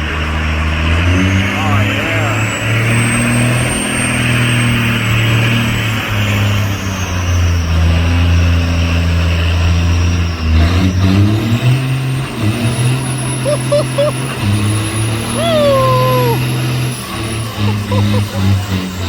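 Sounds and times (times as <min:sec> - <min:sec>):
truck diesel engine revving: 0:00.0 - 0:19.0.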